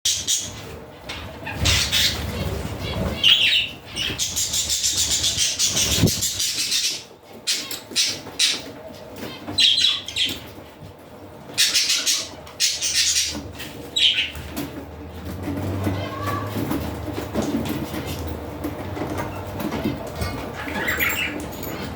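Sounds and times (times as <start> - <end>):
budgerigars chirping and chattering: 0.1 - 16.7, 19.1 - 21.9.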